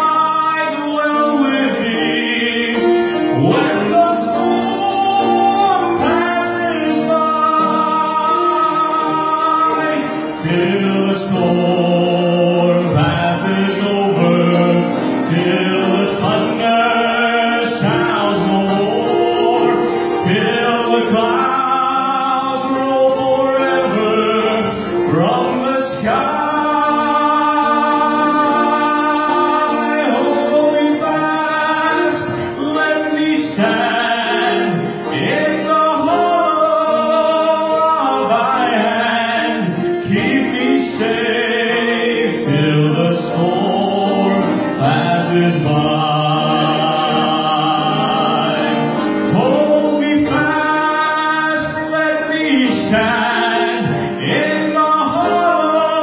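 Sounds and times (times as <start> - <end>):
man singing gospel song: 0.0 - 56.0.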